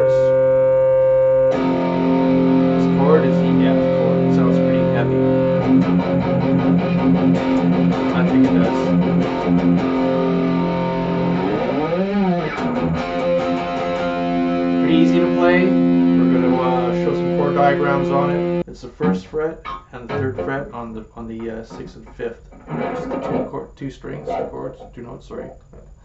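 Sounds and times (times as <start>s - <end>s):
electric guitar notes and chords: 0.0s - 20.5s, 22.6s - 23.5s.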